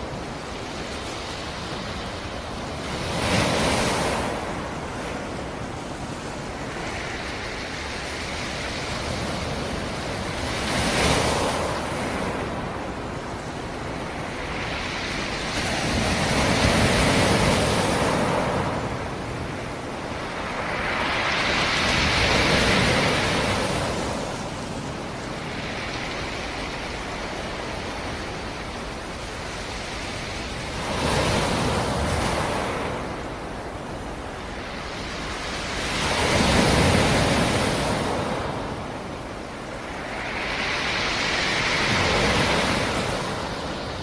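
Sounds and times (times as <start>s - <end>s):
waves breaking: 0.0s - 44.0s.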